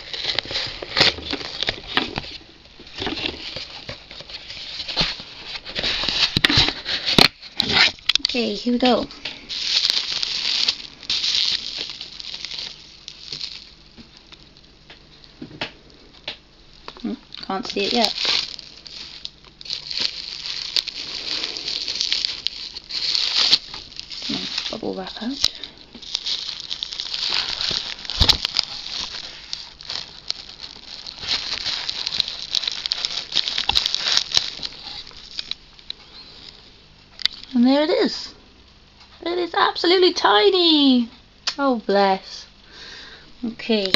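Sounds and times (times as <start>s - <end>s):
bubble wrap crinkling: 0.0s - 37.6s, 43.5s - 43.9s.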